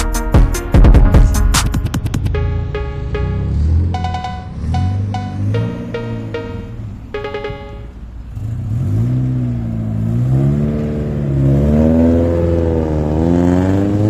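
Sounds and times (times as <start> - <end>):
car engine revving: 1.6 - 14.0.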